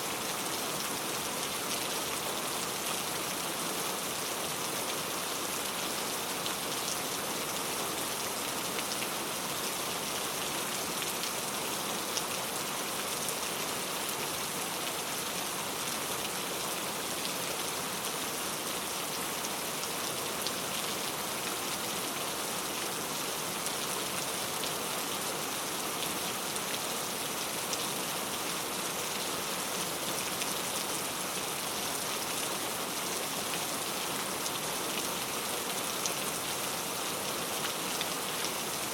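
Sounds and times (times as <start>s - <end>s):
steady rainfall hiss: 0.0s - 38.9s.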